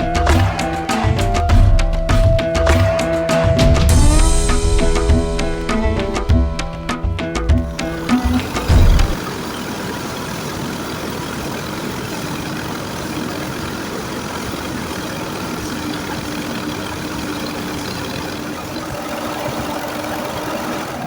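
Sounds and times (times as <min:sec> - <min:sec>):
thresher machine running: 0:03.4 - 0:21.0.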